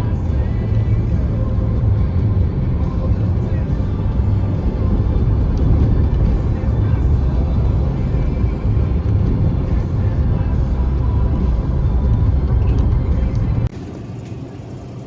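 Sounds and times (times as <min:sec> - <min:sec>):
music playing: 0:00.0 - 0:13.7
car road rumble inside cabin: 0:00.0 - 0:14.7.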